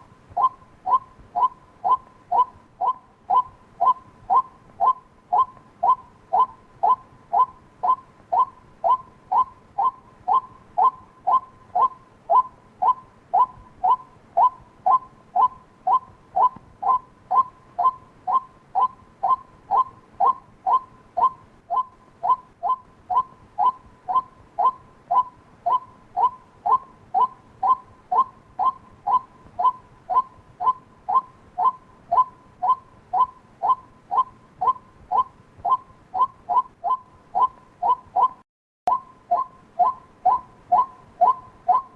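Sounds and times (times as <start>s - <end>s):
waterhen calling: 0.0s - 41.9s.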